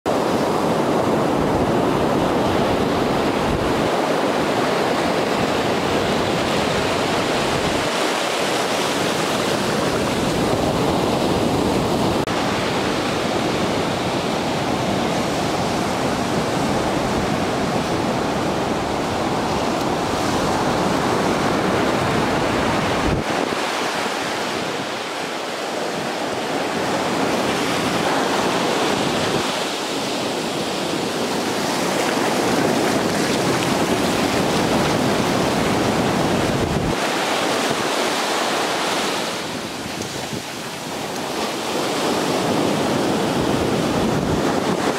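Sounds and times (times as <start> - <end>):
ocean surf breaking: 0.1 - 44.9
wind buffeting microphone: 0.1 - 44.9.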